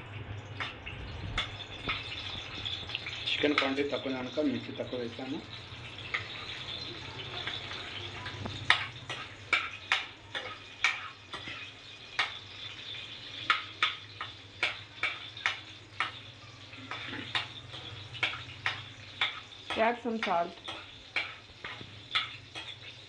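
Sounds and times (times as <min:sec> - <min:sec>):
chillies sizzling in hot oil: 0:00.0 - 0:23.0
metal spoon clinking and scraping pan: 0:00.5 - 0:23.0.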